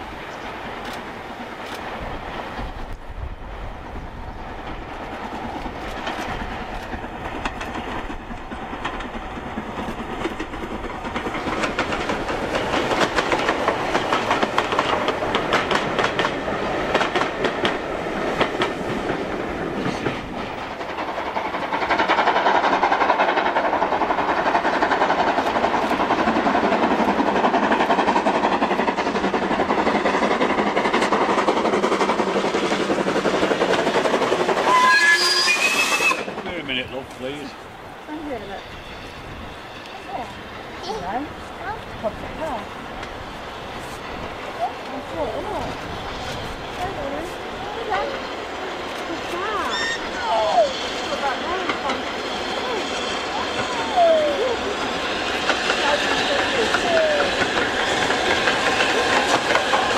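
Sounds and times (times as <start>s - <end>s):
steam locomotive passing: 0.0s - 59.9s
steam train rushing noise: 0.0s - 59.9s
wheels clattering over rail joints: 4.6s - 38.6s, 44.1s - 59.9s.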